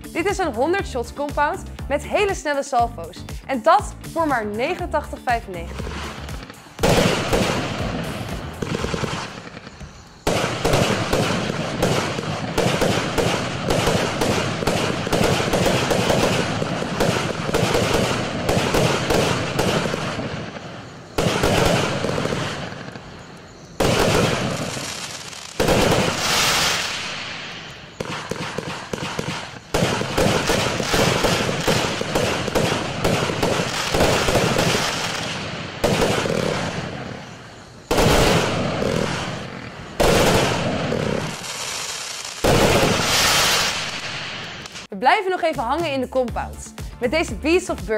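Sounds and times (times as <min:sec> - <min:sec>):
fireworks firing rapid reports: 0:00.0 - 0:44.9.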